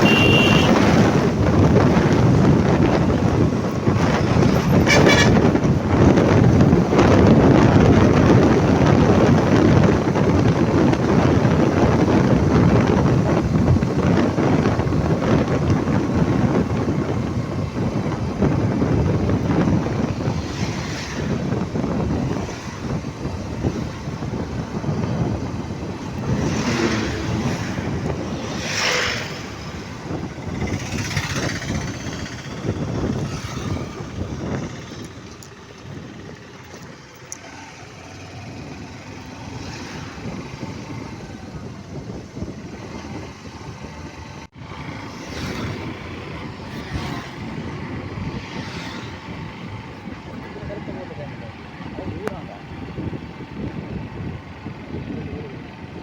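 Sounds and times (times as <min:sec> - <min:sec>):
vehicles swishing past: 0:00.0 - 0:55.9
road traffic rumble: 0:00.0 - 0:56.0
wind buffeting microphone: 0:00.0 - 0:56.0.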